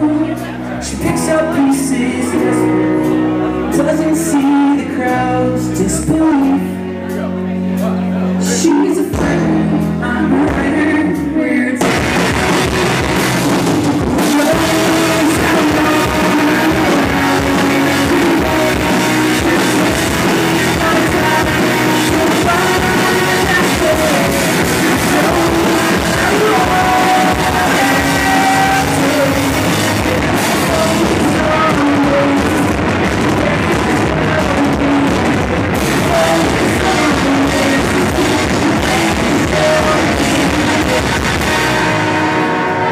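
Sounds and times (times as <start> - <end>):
person singing: 0.0 - 13.2, 14.1 - 42.9
live rock band playing: 0.0 - 42.9.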